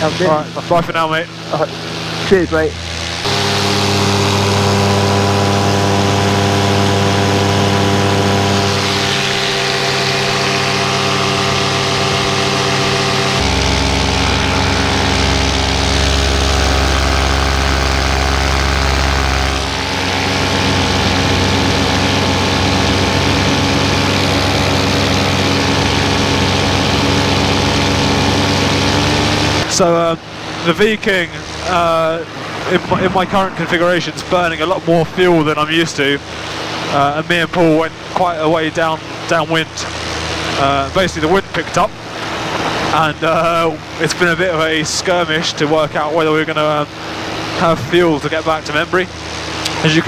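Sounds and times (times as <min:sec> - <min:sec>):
paramotor engine and propeller: 0:00.0 - 0:50.0.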